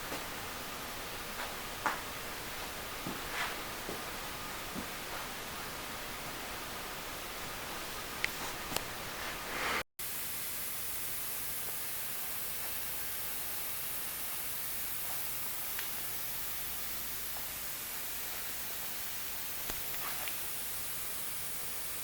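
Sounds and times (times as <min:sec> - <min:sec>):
recording hiss: 0:00.0 - 0:22.0.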